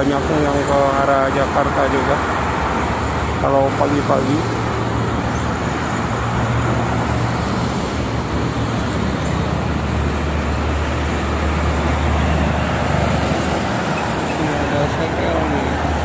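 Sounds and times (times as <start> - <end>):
heavy motorway traffic roar: 0.0 - 16.0
truck engine drone: 0.0 - 16.0.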